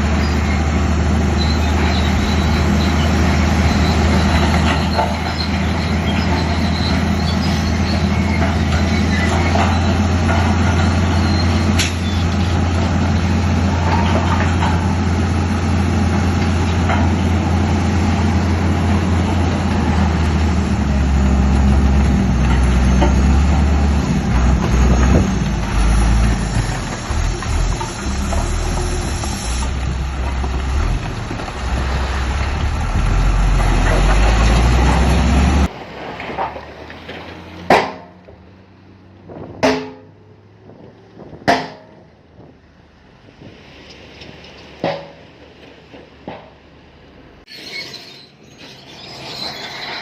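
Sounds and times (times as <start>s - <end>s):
heavy diesel machinery rumbling: 0.0s - 50.0s.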